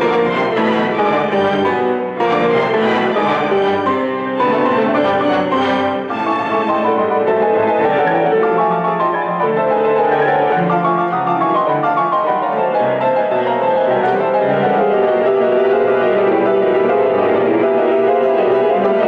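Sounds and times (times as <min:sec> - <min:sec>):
grand piano run of notes: 0:00.0 - 0:19.0
orchestra: 0:00.0 - 0:19.0.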